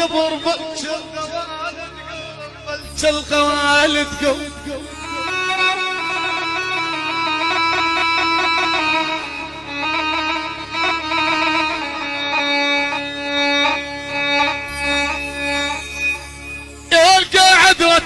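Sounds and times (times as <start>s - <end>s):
instrumental melody: 0.0s - 18.0s.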